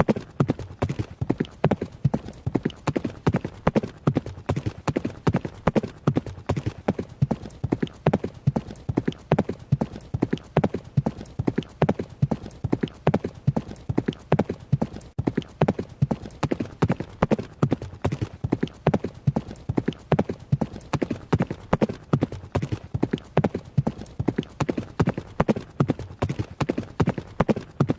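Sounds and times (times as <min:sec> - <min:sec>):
horse hooves running: 0:00.0 - 0:27.9.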